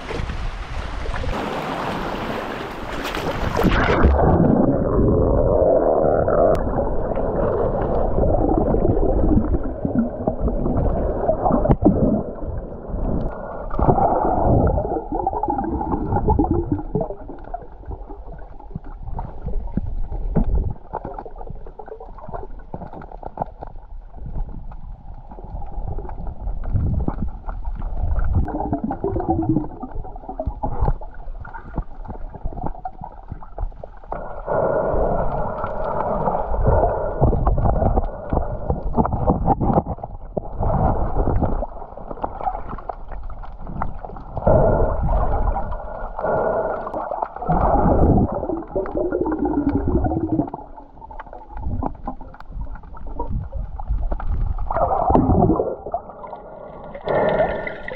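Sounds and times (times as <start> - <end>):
muffled underwater water gurgling: 0.0 - 57.9.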